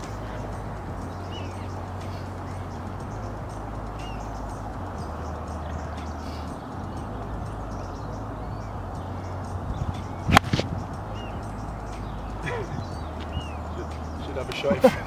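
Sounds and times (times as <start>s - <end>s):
bird chirps: 0.0s - 15.0s
outdoor background rumble: 0.0s - 15.0s.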